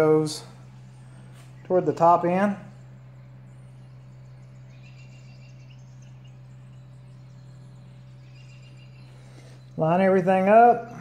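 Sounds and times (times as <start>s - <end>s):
low steady hum: 0.0s - 11.0s
faint high chirps: 0.6s - 11.0s.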